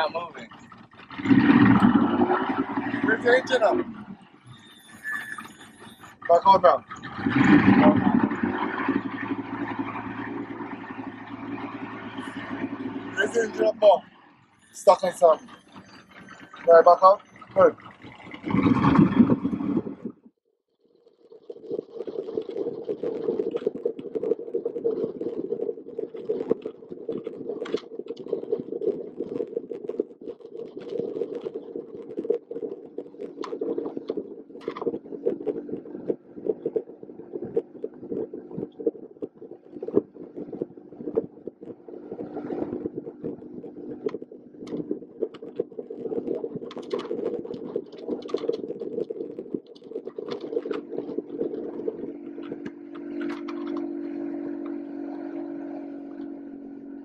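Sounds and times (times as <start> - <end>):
motorboat engine drone: 0.0 - 57.0.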